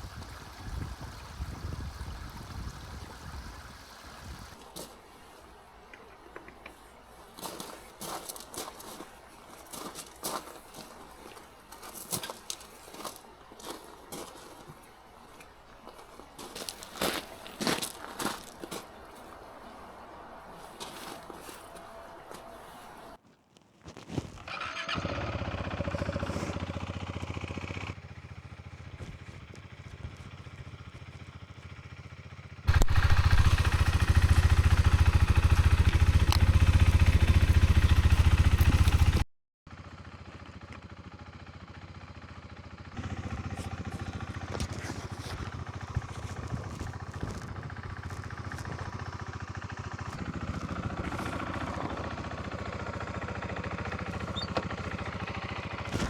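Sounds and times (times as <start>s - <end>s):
motorcycle engine running: 0.0s - 23.2s, 24.4s - 56.0s.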